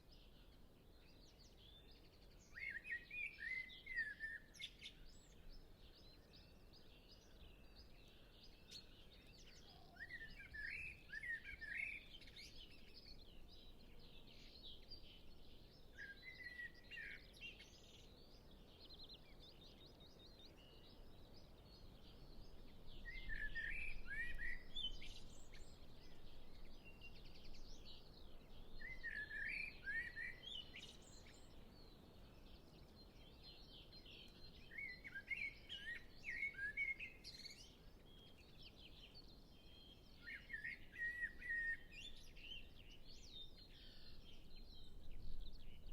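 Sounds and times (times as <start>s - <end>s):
faint birds twittering: 0.0s - 45.9s
blackbird singing: 1.0s - 45.9s.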